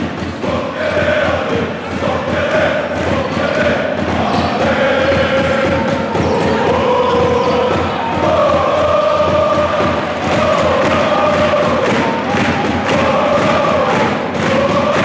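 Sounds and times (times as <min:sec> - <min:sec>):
crowd chanting: 0:00.0 - 0:15.0
steady beat of thumps: 0:00.0 - 0:15.0.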